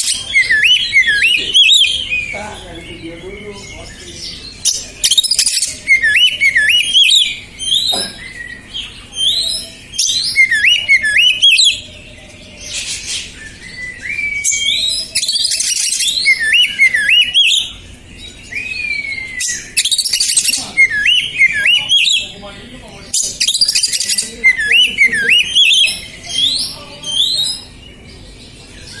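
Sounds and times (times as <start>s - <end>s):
bird whistled song: 0.0s - 2.5s, 3.2s - 22.4s, 23.1s - 29.0s
bird harsh raspy calls: 0.0s - 29.0s.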